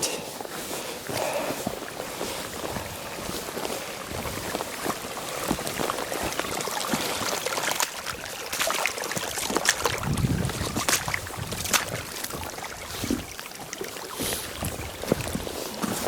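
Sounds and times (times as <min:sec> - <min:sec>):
footsteps on wet ground: 0:00.0 - 0:16.0
stream running water: 0:00.0 - 0:16.0.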